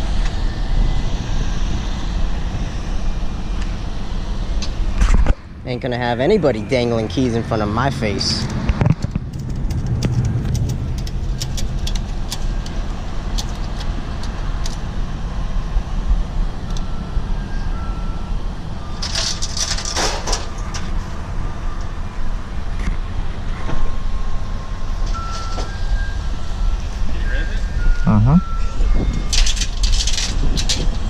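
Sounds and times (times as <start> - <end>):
motor vehicle rumble: 0.0 - 31.0.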